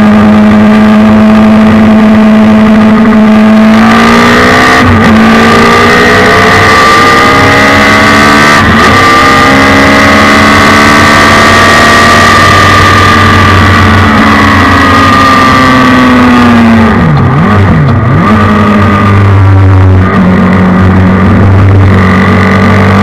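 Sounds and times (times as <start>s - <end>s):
loud motorcycle engine running hard: 0.0s - 23.0s.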